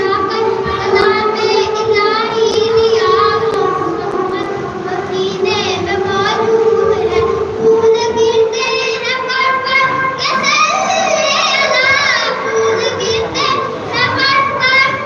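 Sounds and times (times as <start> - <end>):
boy singing through loudspeaker: 0.0 - 15.0.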